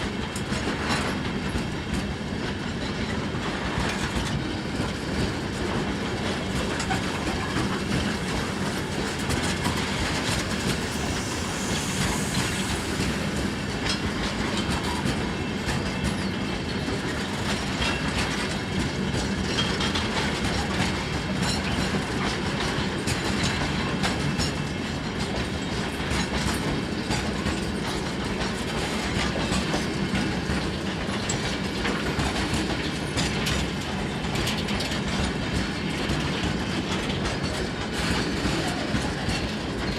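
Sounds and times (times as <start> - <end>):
train wagons rolling past: 0.0 - 39.9
wheels clicking over rail joints: 0.0 - 39.9.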